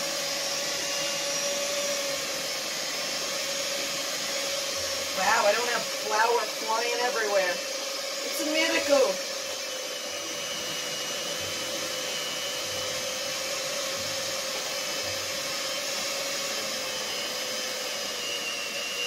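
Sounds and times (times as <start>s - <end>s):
electric mixer motor whine: 0.0s - 19.0s.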